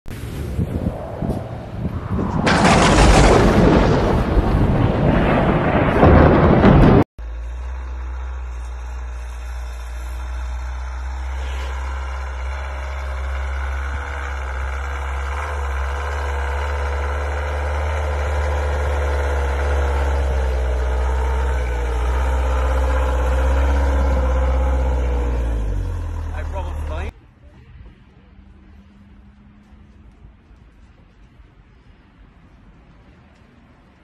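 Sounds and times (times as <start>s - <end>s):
engine rumbling: 0.0s - 34.0s.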